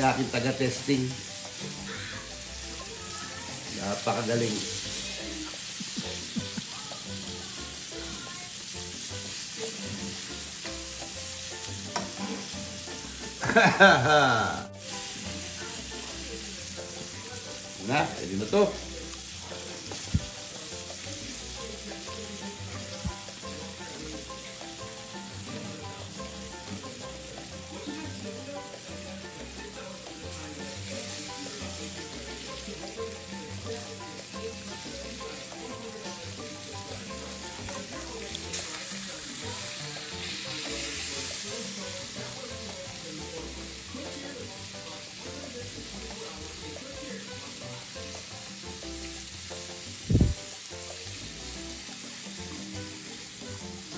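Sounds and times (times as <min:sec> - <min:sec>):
food sizzling in a pan: 0:00.0 - 0:53.9.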